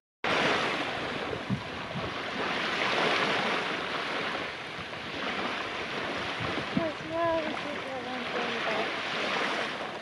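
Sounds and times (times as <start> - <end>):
sea waves: 0.2 - 10.0
wind: 0.2 - 10.0.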